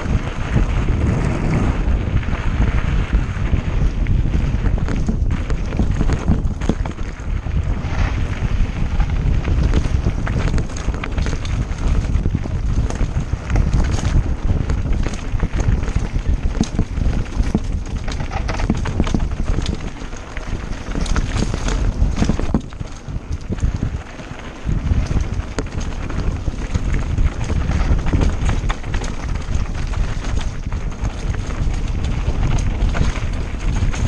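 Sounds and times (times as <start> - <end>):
bike frame rattling: 0.0 - 34.0
wind rumble on microphone: 0.0 - 34.0.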